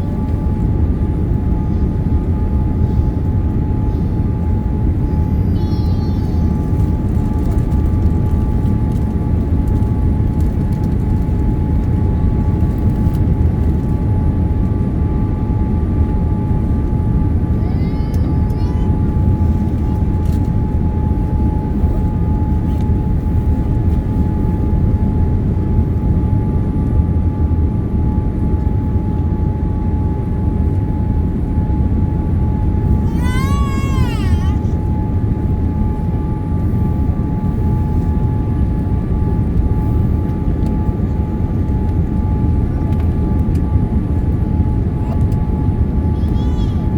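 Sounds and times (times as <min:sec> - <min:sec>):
airplane cabin engine roar: 0:00.0 - 0:46.9.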